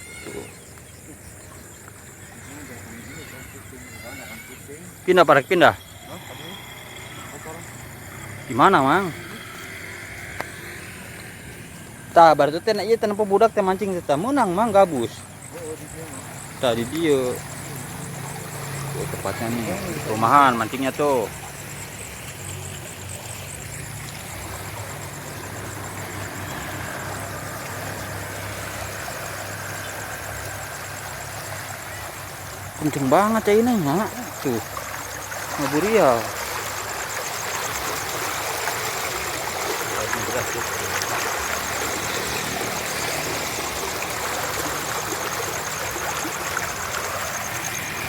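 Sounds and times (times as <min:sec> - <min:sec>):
fast-flowing water hissing: 0:00.0 - 0:48.0.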